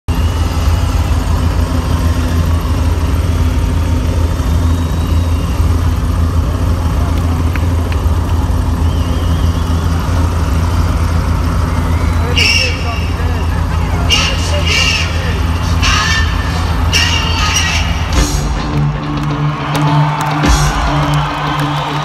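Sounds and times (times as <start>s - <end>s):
helicopter sound over loudspeakers: 0.1s - 19.8s.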